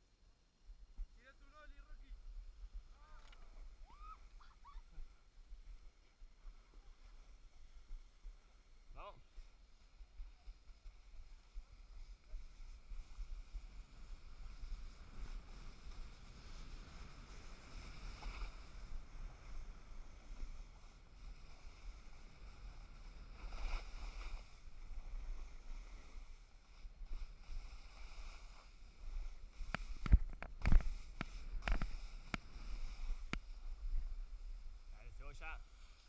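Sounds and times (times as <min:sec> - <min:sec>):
snowboard scraping on snow: 0:04.9 - 0:36.0.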